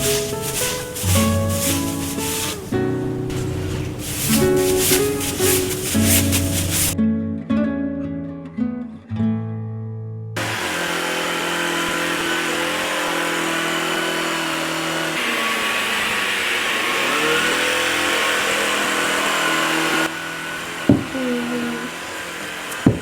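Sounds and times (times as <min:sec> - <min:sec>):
vacuum cleaner running: 0:00.0 - 0:07.0, 0:10.4 - 0:23.0.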